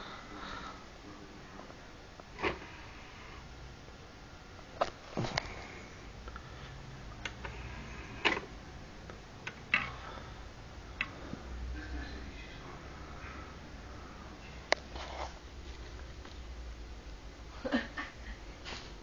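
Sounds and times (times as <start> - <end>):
faint steady low hum: 0.0 - 19.0.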